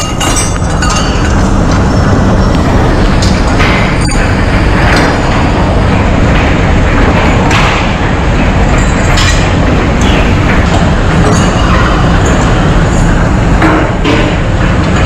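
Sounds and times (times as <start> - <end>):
sharp metallic clanks: 0.0 - 2.0, 3.0 - 15.0
machinery din: 0.0 - 15.0.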